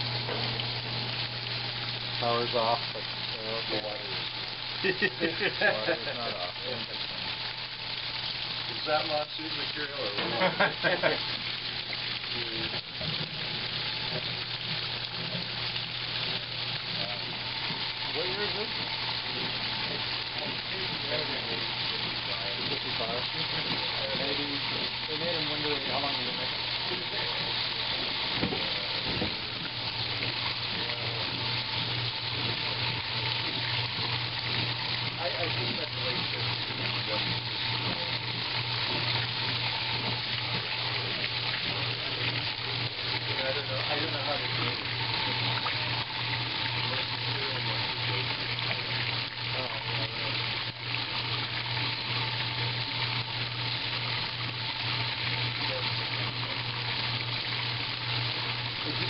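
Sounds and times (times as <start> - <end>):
washing machine low hum: 0.0 - 59.0
water splashing and churning: 0.0 - 59.0.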